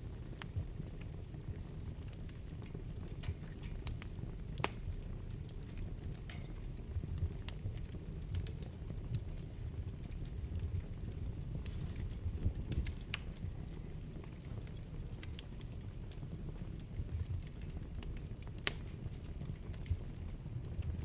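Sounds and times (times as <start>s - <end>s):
fire burning in fireplace: 0.0s - 21.0s.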